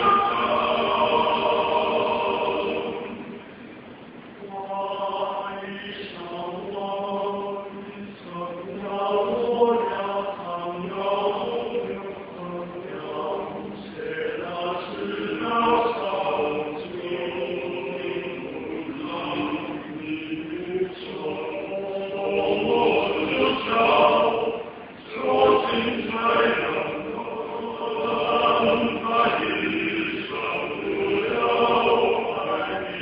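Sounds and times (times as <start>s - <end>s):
male vocal ensemble singing: 0.0s - 3.4s, 4.4s - 33.0s.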